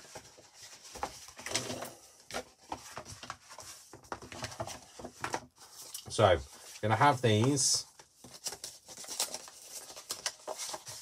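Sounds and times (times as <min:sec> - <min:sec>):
card sheets rustling and sliding: 0:00.0 - 0:11.0.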